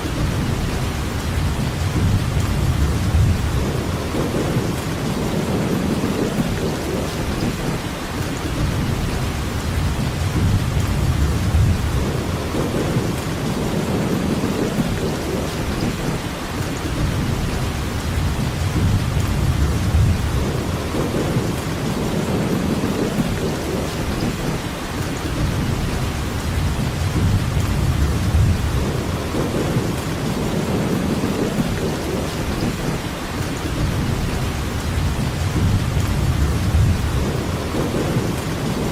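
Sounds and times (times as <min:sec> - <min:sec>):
steady rain: 0:00.0 - 0:38.9
thunder rumbling: 0:00.0 - 0:38.9.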